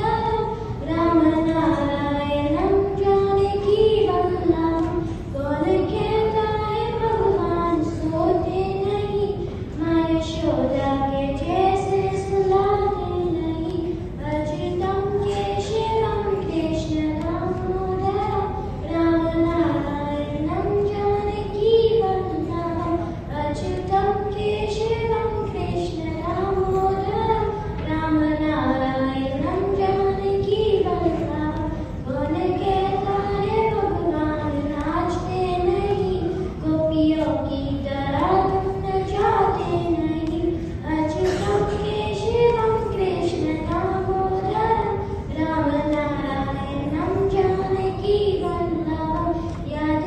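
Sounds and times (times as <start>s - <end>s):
child singing: 0.0s - 50.0s.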